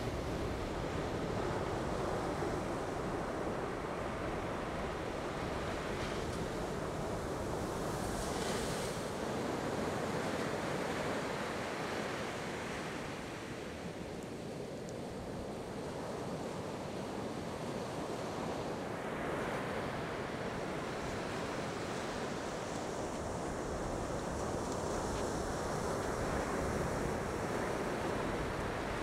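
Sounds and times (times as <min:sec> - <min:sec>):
ocean surf washing on beach: 0:00.0 - 0:29.0.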